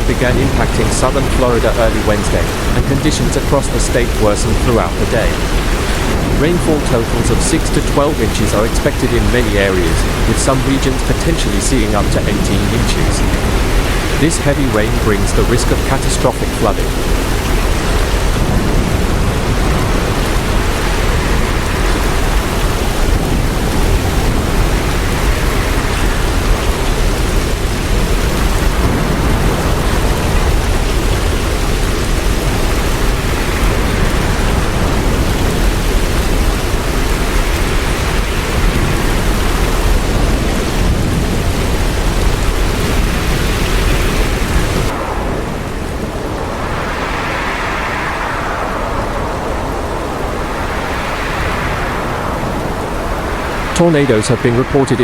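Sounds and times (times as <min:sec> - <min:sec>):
heavy rain: 0:00.0 - 0:55.0
hurricane wind: 0:00.0 - 0:55.0.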